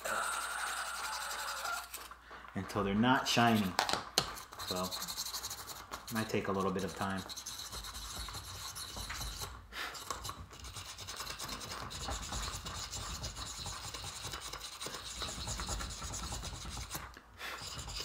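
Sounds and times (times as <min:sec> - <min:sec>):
scratching and rubbing small parts: 0:00.0 - 0:18.0.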